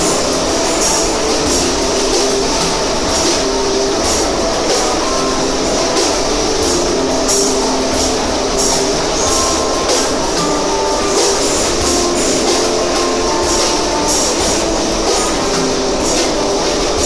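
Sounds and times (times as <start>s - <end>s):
shifting held tones: 0.0s - 17.0s
train rumble and rattle: 0.0s - 17.0s
wheels clacking over rails: 0.0s - 17.0s.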